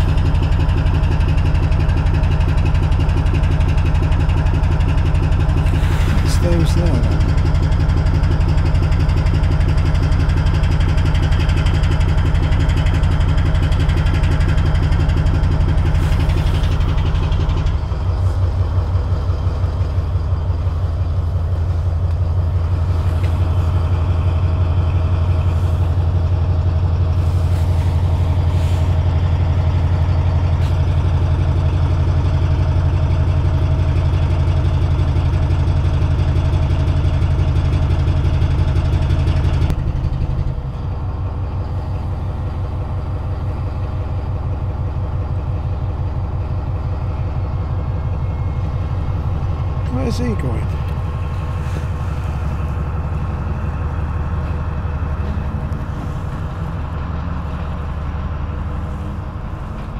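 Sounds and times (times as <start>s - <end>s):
diesel locomotive engine idling: 0.0s - 59.9s.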